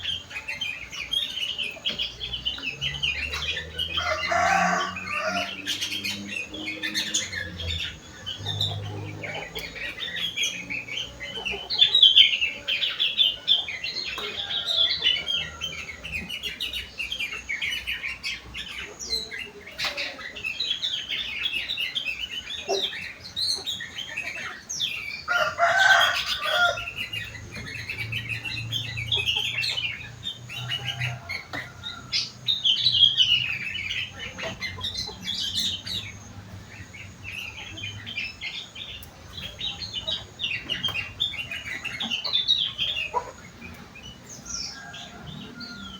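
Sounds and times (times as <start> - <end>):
bird singing chirps and warbles: 0.0 - 45.9.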